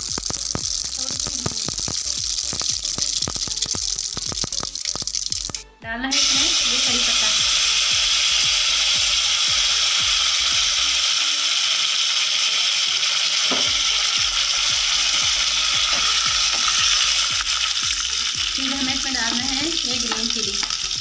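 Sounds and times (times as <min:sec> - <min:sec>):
leaves and seeds sizzling in oil: 0:00.0 - 0:21.0.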